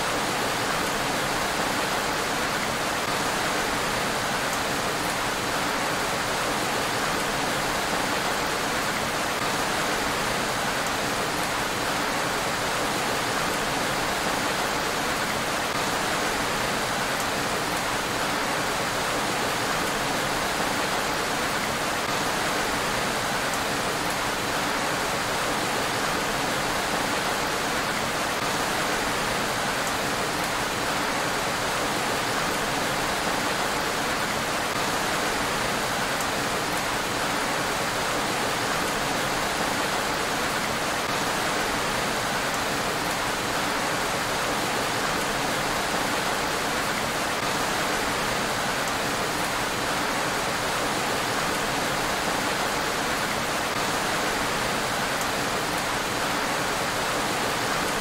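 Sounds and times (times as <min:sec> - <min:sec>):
rain falling on road: 0:00.0 - 0:58.0.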